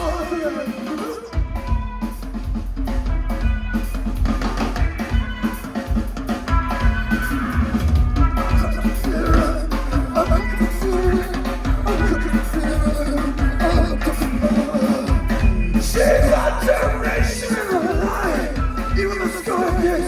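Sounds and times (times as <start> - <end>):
drum kit: 0.0 - 20.0
guitar: 0.0 - 20.0
live band playing: 0.0 - 20.0.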